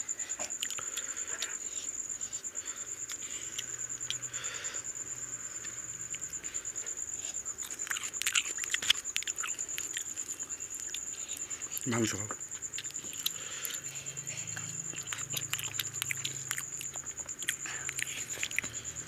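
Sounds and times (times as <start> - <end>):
soft chewing and mouth clicks: 0.2 - 19.0.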